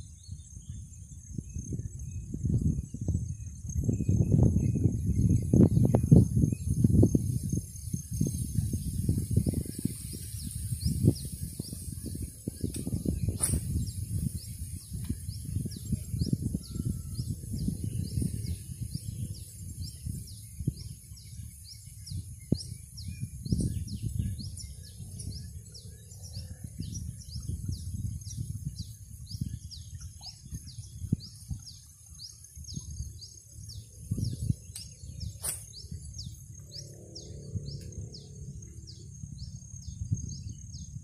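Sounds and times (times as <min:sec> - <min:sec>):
bird chirping: 0:00.0 - 0:41.0.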